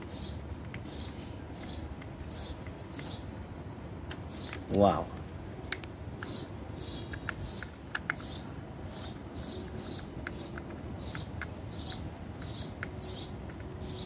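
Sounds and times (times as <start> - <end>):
small bird chirping: 0.0 - 5.1, 6.1 - 14.0.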